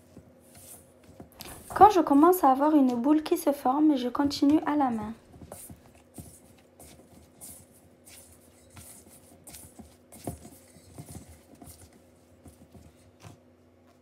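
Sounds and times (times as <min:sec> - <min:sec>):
hands squishing dough: 0:00.0 - 0:03.4, 0:04.0 - 0:14.0.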